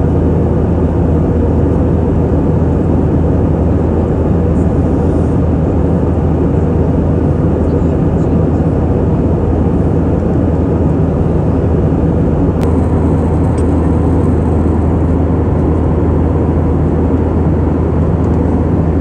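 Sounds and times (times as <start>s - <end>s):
airplane cabin engine rush: 0.0s - 19.0s.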